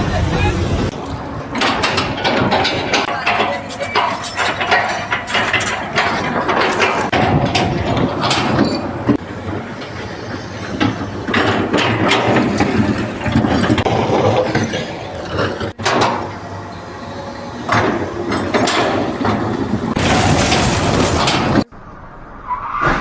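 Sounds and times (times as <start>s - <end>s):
machinery clattering: 0.6s - 21.7s.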